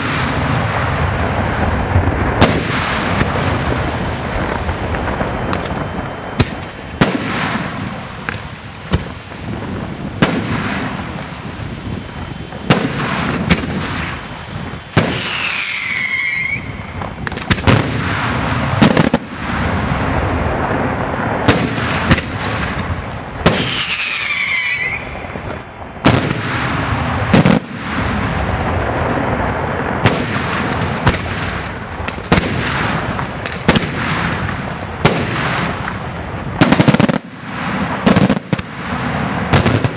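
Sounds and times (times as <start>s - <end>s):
falling firework whistles: 0.0s - 36.0s, 36.6s - 39.9s
firework crackle: 0.0s - 39.9s
firework shells bursting: 0.0s - 39.9s.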